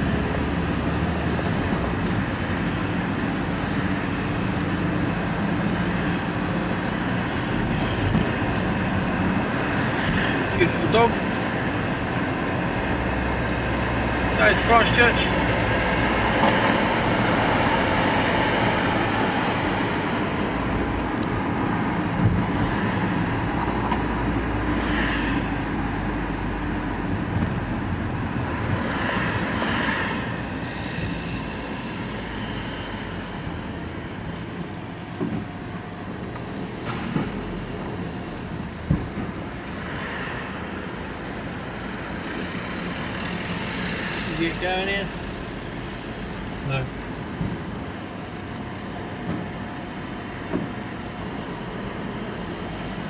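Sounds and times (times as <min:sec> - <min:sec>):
passing traffic swishes: 0:00.0 - 0:53.0
van engine and road rumble: 0:00.0 - 0:53.0.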